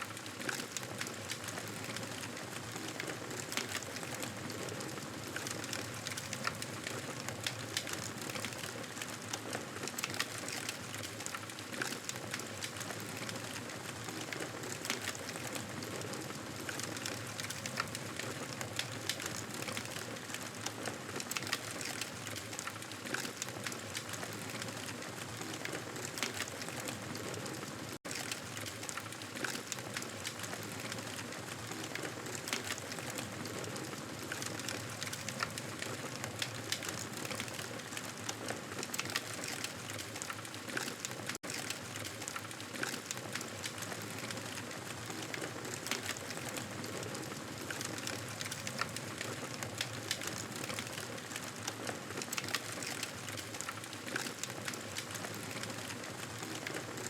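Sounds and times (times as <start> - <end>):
campfire crackling and popping: 0.1 - 57.0.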